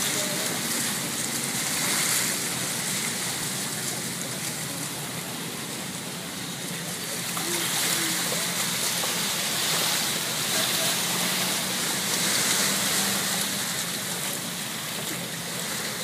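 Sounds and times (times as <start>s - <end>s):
water lapping over rocks: 0.0s - 16.0s.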